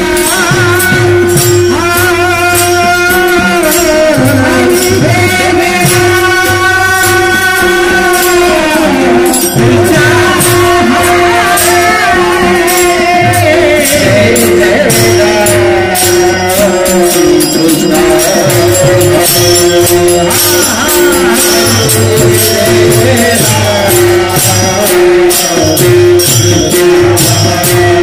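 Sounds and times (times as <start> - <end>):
held drone note: 0.0 - 28.0
metallic jingling strokes: 0.0 - 28.0
person singing: 0.0 - 28.0.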